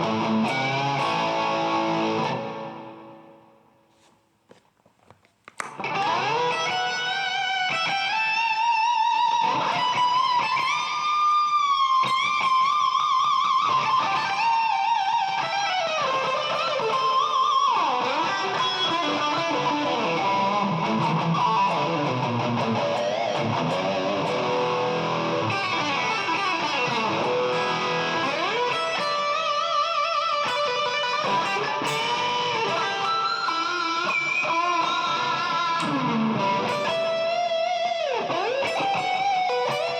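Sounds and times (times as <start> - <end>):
electric guitar with vibrato: 0.0 - 3.8, 5.6 - 39.9.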